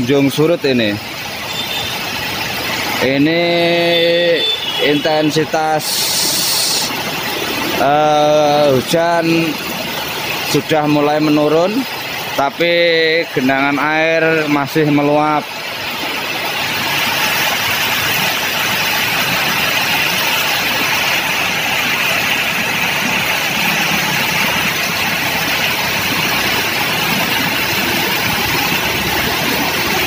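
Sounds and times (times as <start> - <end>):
rain: 0.0 - 30.0
traffic driving through floodwater: 0.0 - 30.0
vehicle engines running low: 0.0 - 30.0.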